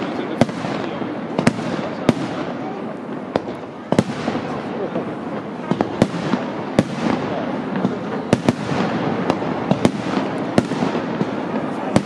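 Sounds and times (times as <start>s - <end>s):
firework shells bursting: 0.0s - 12.0s
noisy fireworks din: 0.0s - 12.0s.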